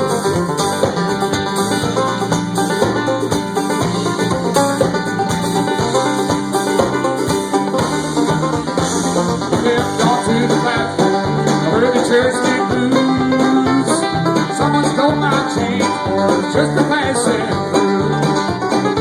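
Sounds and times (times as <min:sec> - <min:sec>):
bluegrass band playing: 0:00.0 - 0:19.0.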